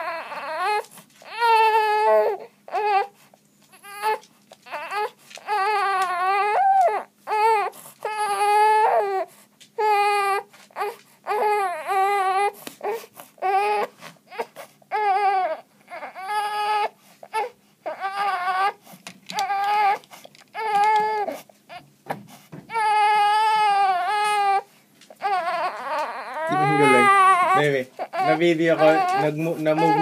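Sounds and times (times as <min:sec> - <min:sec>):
infant crying: 0:00.0 - 0:21.9, 0:22.7 - 0:30.0.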